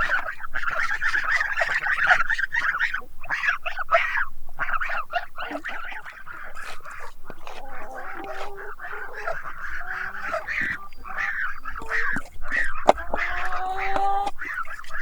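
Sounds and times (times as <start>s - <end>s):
waterfowl flock calling: 0.0s - 15.0s.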